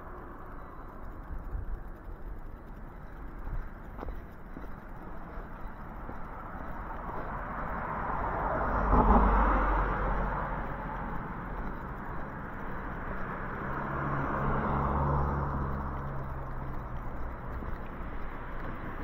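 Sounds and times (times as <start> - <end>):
cars passing: 0.0 - 19.0
low engine hum: 0.0 - 19.0.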